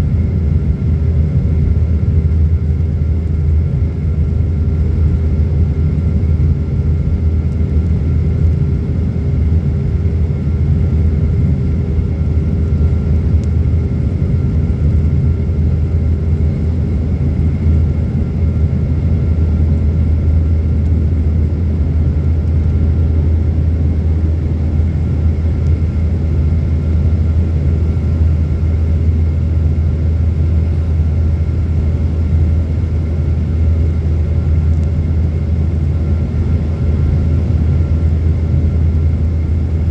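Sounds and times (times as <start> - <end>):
faint steady hums: 0.0 - 39.9
jet engine rumble in cabin: 0.0 - 39.9.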